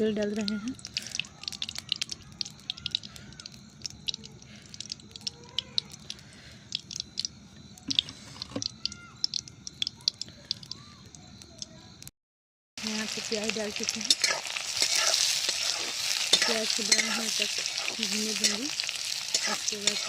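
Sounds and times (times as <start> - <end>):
oil crackling in a pan: 0.0 - 12.1, 12.8 - 20.0.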